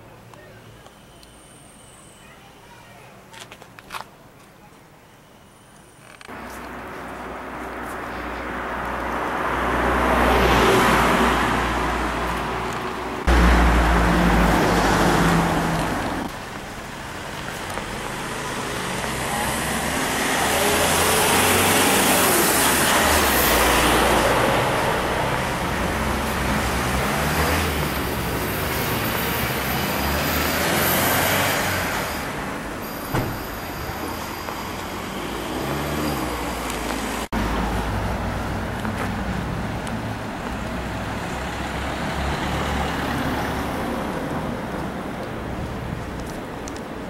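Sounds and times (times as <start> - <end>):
cars passing: 6.0 - 47.0.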